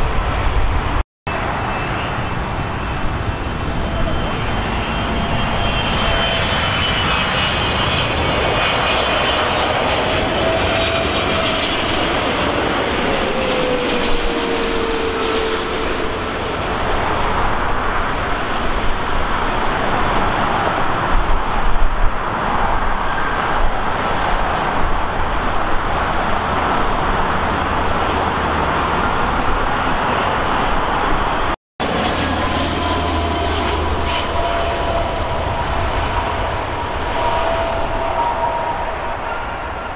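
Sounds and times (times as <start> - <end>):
jet airliner passing: 0.0 - 39.9.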